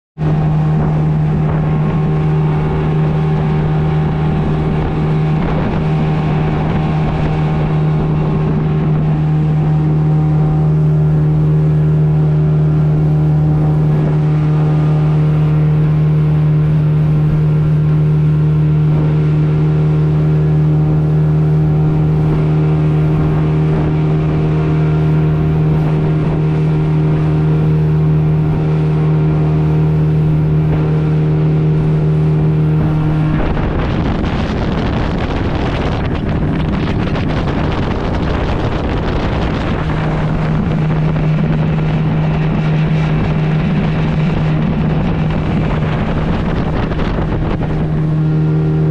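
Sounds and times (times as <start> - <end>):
motorboat engine humming: 0.2 - 48.9
water spray off hull: 0.2 - 48.9.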